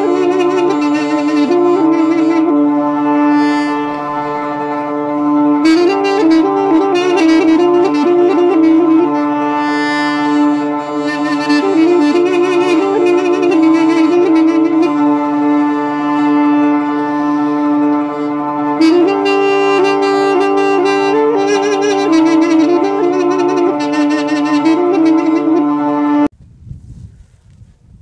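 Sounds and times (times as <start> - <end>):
held drone: 0.0 - 26.3
reed instrument melody: 0.0 - 26.3.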